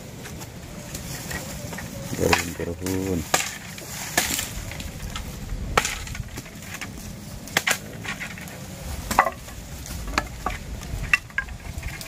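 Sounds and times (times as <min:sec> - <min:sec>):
rustle of dry bamboo litter: 0:00.0 - 0:12.0
bamboo sticks snapping: 0:00.2 - 0:12.0.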